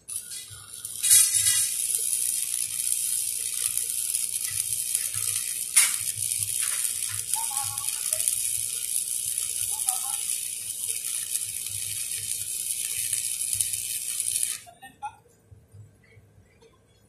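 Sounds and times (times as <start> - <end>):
welding arc crackling and hissing: 0.0 - 14.7.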